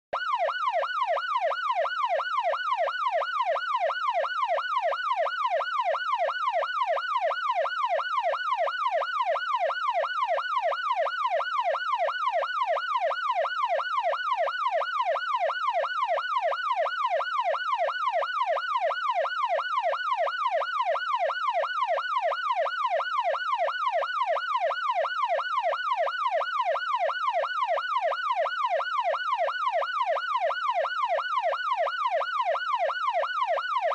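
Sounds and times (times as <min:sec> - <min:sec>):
police siren yelping: 0:00.2 - 0:33.9.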